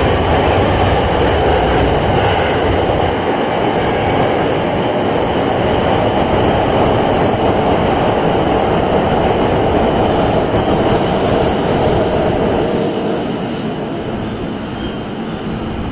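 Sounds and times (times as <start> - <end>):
train wheels rumbling on rails: 0.0 - 15.9.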